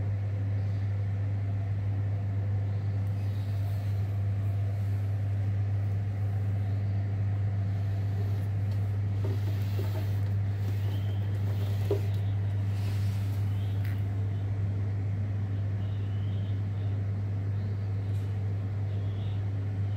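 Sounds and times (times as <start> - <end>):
amplifier electrical hum: 0.0 - 19.9.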